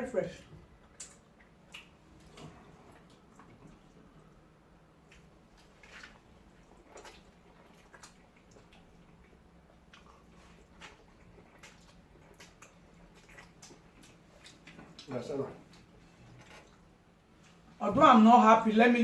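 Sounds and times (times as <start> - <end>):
person chewing food: 0.6 - 17.7.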